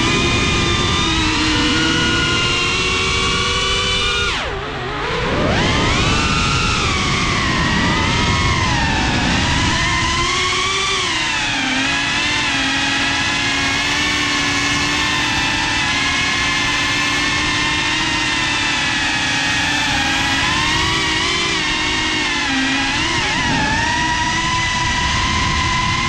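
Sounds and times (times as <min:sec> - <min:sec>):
drone motors buzzing whine: 0:00.0 - 0:26.0.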